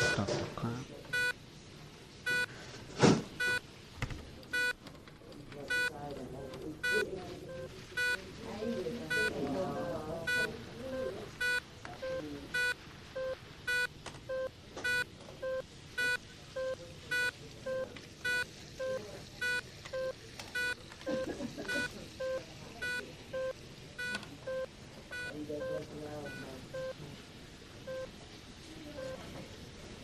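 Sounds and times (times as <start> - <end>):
hospital monitor beeping: 0.0 - 0.4, 1.0 - 1.4, 2.2 - 2.6, 3.4 - 3.7, 4.5 - 4.9, 5.5 - 27.0, 27.8 - 28.2, 28.9 - 29.3.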